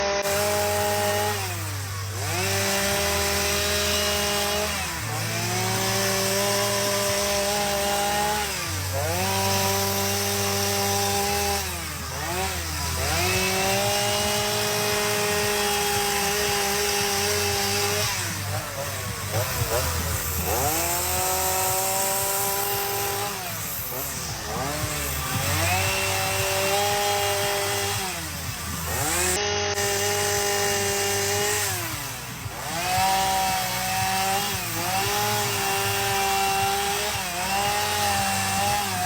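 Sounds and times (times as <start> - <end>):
chainsaw running at high revs: 0.0 - 39.0.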